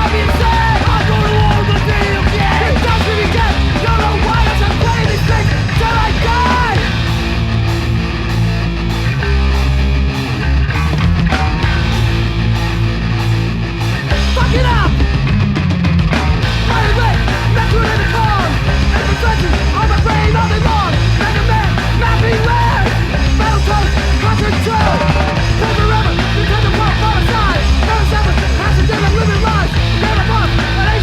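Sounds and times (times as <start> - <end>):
loud punk rock music: 0.0 - 31.0.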